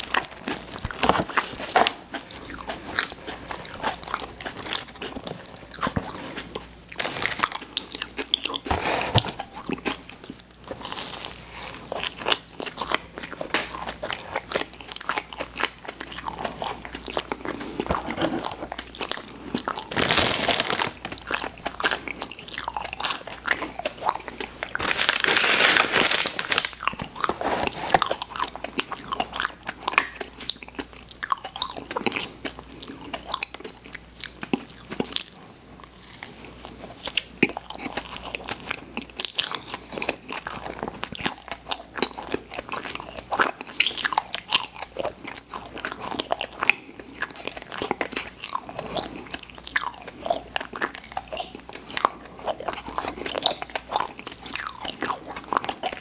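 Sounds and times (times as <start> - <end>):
biting and chewing sweets: 0.0 - 56.0.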